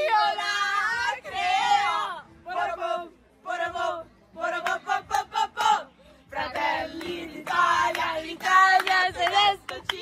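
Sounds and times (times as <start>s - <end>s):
women singing together loudly: 0.0s - 10.0s.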